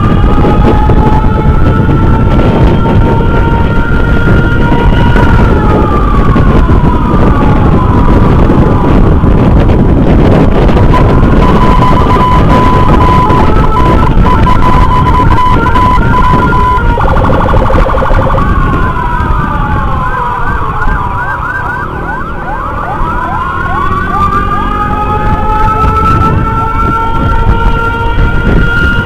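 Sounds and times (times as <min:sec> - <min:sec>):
electronic emergency sirens: 0:00.0 - 0:29.0
road and wind noise rumble: 0:00.0 - 0:29.0.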